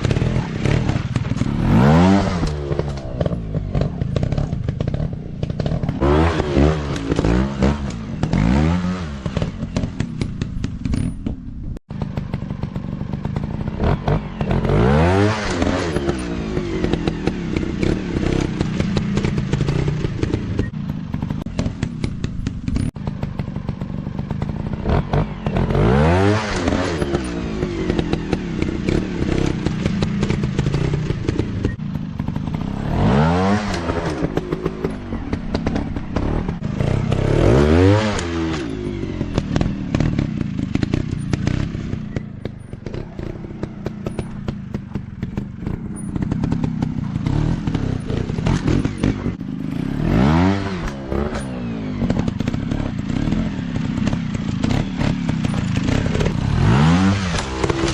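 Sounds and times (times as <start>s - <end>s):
dirt bike engines revving: 0.0s - 57.9s.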